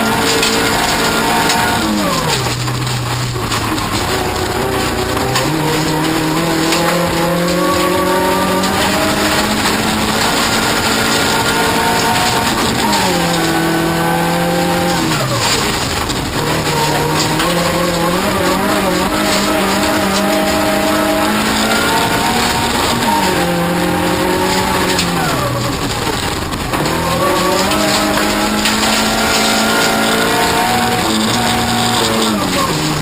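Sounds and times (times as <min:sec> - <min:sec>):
rally car engine revving: 0:00.0 - 0:33.0
tyre and road noise: 0:00.0 - 0:33.0.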